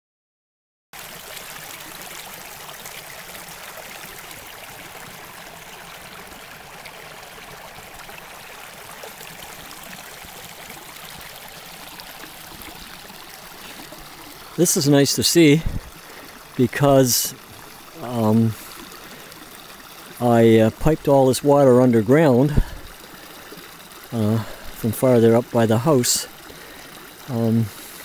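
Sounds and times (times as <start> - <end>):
brook water running: 1.0 - 28.0.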